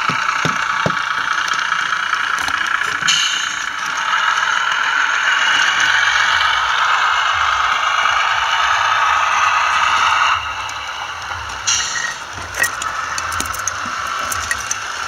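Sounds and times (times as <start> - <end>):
model train rattling on rails: 0.0 - 15.0.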